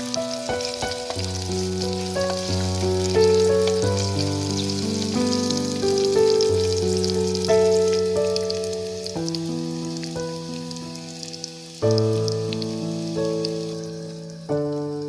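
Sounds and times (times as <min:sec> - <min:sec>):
food sizzling: 0:00.0 - 0:15.0
slow melodic background music: 0:00.0 - 0:15.0.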